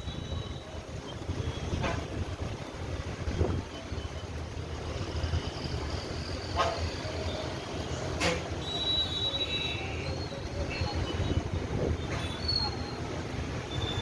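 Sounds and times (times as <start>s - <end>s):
traffic on a wet road: 0.0s - 14.0s.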